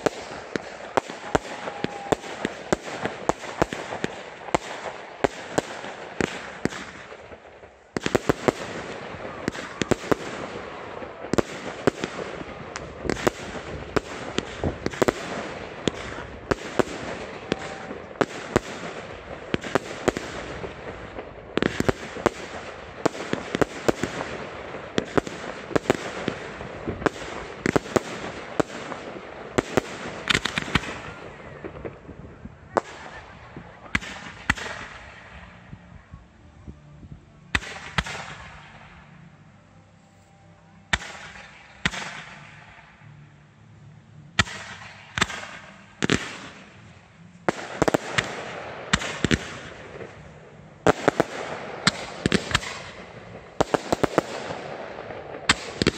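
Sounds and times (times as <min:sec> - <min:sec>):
fireworks bangs: 0:00.0 - 0:35.8, 0:37.5 - 0:39.2, 0:44.4 - 0:55.9
fireworks crackling: 0:00.0 - 0:55.9.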